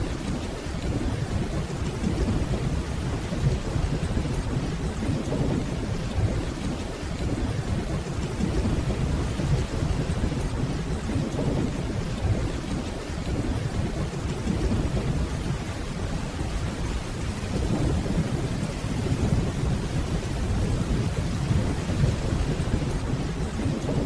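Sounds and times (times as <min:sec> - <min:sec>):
distant rolling thunder: 0:00.0 - 0:24.0
steady rain: 0:00.0 - 0:24.0.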